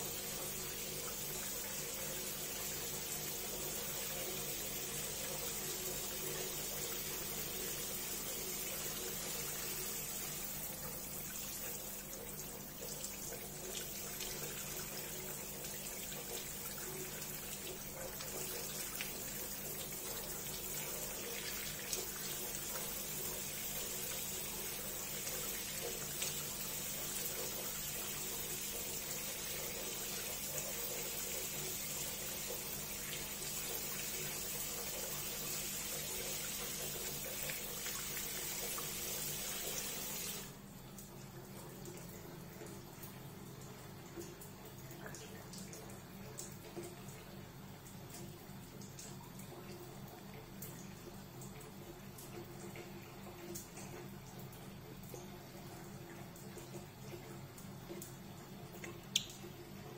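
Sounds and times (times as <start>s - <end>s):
tap water running: 0.0s - 59.9s.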